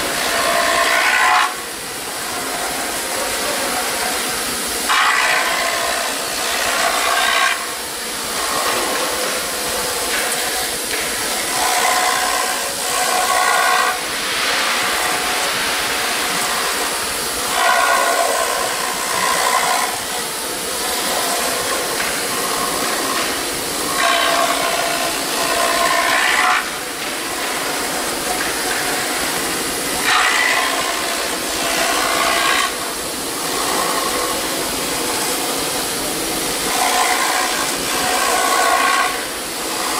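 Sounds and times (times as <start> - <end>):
router bit cutting foam: 0.0 - 4.2, 4.9 - 39.9
router spindle whine: 4.8 - 14.1, 14.9 - 39.9.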